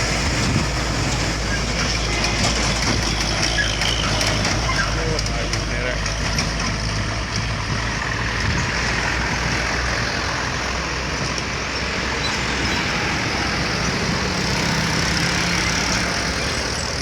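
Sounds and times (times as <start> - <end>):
heavy truck engine under load: 0.0 - 17.0
road noise: 0.0 - 17.0.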